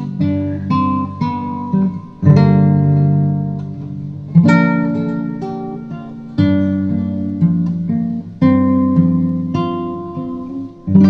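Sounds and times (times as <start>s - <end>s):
slow acoustic guitar music: 0.0s - 11.0s.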